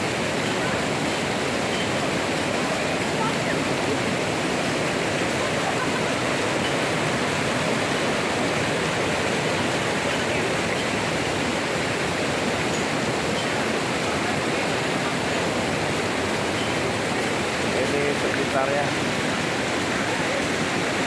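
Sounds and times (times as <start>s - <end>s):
waterfall pouring onto rocks: 0.0s - 21.0s.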